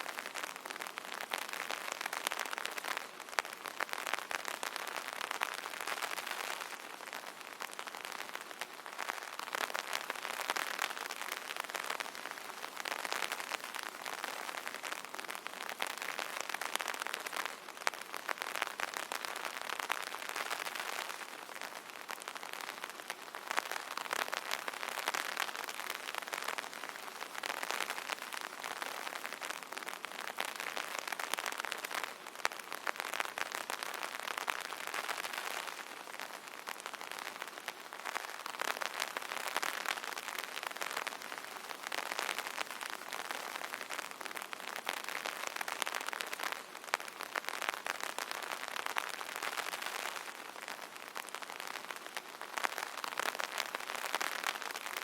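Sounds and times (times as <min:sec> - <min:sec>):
rain pattering on an umbrella: 0:00.0 - 0:55.0.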